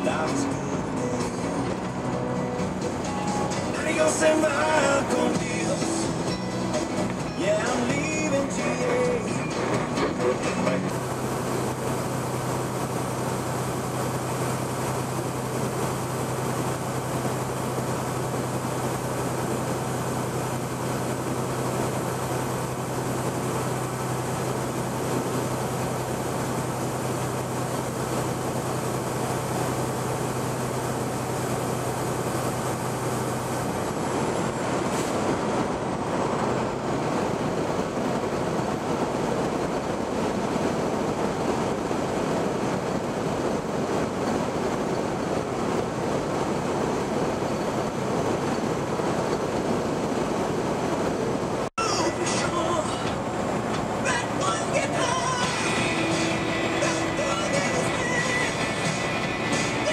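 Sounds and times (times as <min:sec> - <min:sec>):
low engine hum: 0:00.0 - 0:59.9
road noise rushing: 0:00.0 - 0:59.9.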